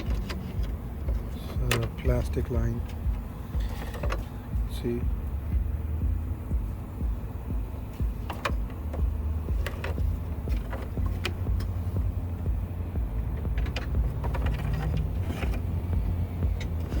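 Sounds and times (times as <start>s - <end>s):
low vehicle rumble: 0.0s - 17.0s.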